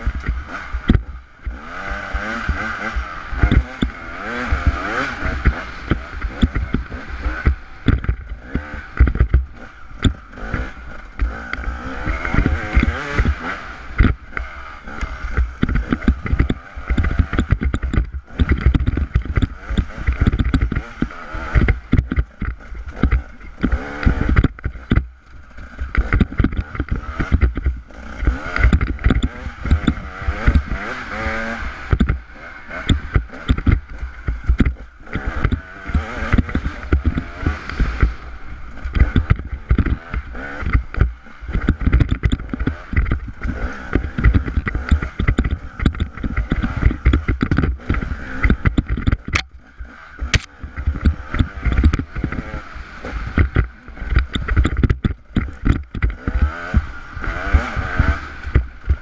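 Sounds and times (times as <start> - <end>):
bike rattling over rocks: 0.0 - 59.0
steady rushing noise: 0.0 - 59.0.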